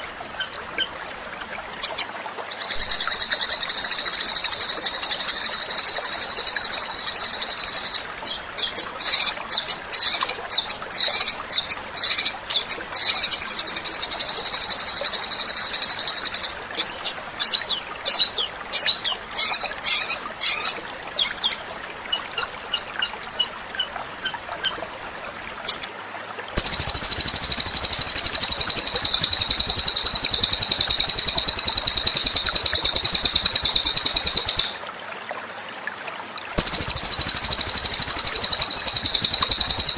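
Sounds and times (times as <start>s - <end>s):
songbird trilling: 1.8s - 24.8s, 26.6s - 34.8s, 36.6s - 39.9s.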